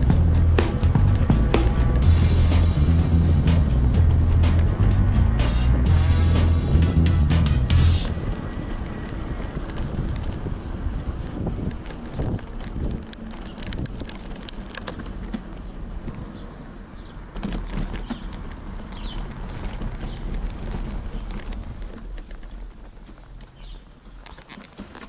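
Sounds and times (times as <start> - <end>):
bicycle tyres on cobblestones: 0.0 - 25.0
bike clicks and rattles: 0.0 - 25.0
wind rumble on microphone: 0.0 - 25.0.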